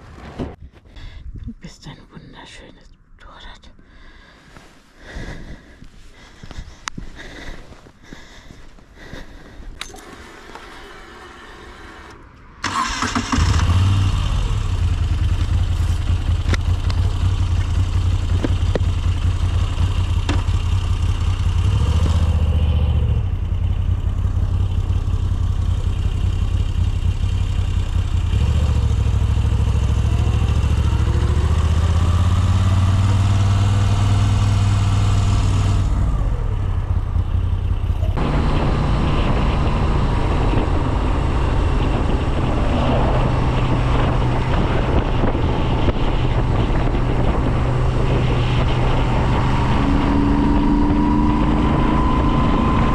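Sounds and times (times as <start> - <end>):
motorcycle engine starting and running: 4.6 - 52.9.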